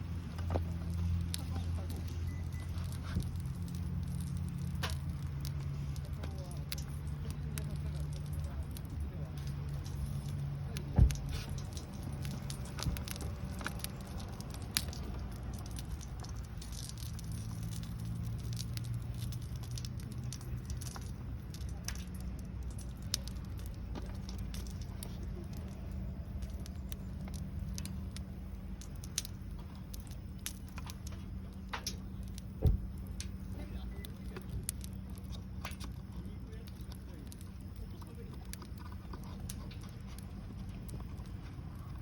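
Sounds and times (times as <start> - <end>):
campfire crackling: 0.0 - 42.0
steady low hum: 0.0 - 42.0.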